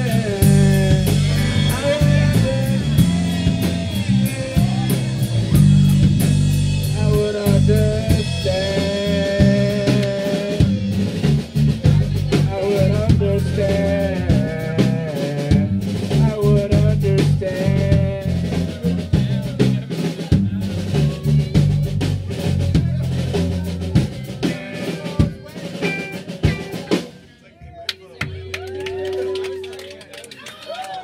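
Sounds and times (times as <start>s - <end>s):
drum kit pounding: 0.0s - 27.2s
rock band playing loudly: 0.0s - 27.2s.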